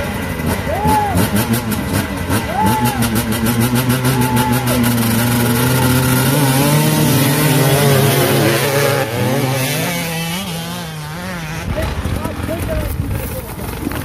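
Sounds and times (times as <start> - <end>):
dirt bikes revving: 0.0 - 14.0.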